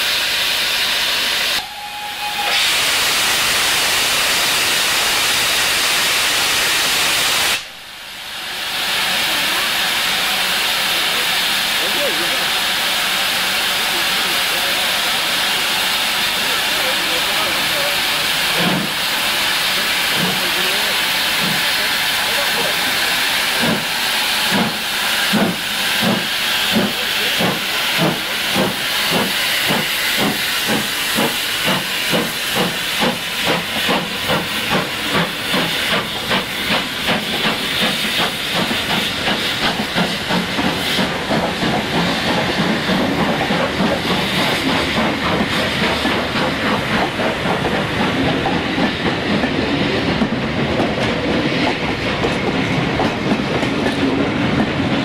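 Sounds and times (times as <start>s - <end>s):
steam hissing: 0.0s - 55.0s
steam locomotive chuffing: 0.0s - 55.0s
train coaches rumbling past: 8.4s - 55.0s.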